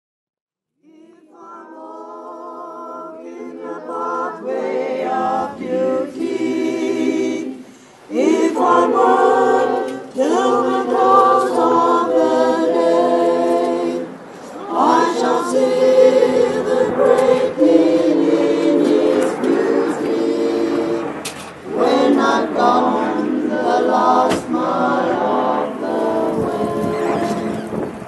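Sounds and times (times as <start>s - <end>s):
choir singing unaccompanied: 0.8s - 28.0s.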